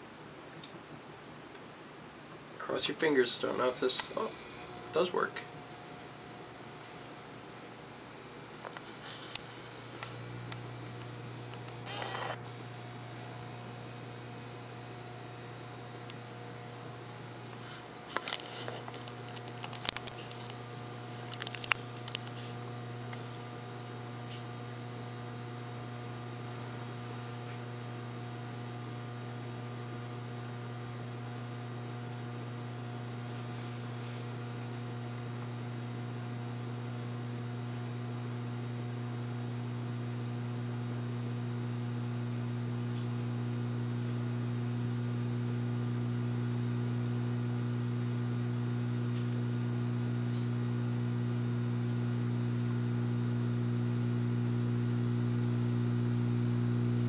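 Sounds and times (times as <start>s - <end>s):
low mains hum from light ballast: 0.0s - 57.0s.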